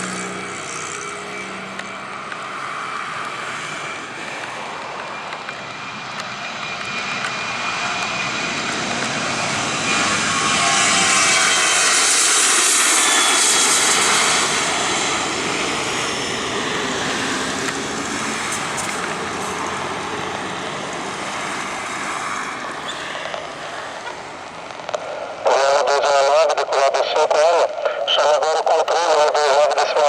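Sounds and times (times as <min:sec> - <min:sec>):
jet airliner roar passing: 0:00.0 - 0:30.0.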